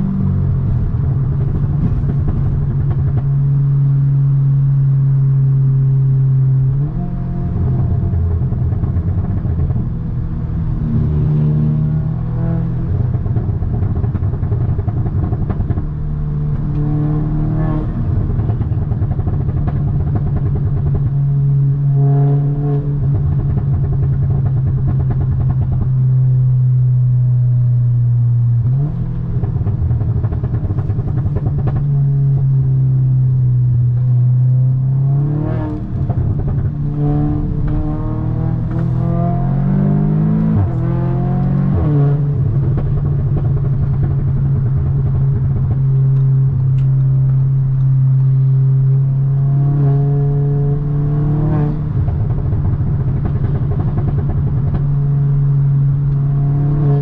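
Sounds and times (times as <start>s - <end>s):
car engine and exhaust droning: 0.0s - 57.0s.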